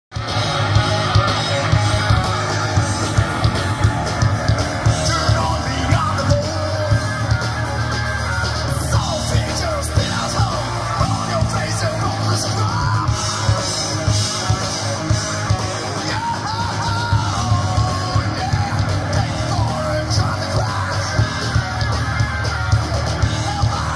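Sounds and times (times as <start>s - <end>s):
live rock band playing: 0.1s - 23.9s.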